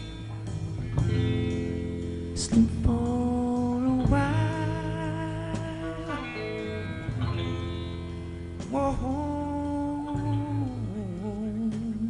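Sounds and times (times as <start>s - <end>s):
guitar melody: 0.0s - 12.0s
steady bass line: 0.0s - 12.0s.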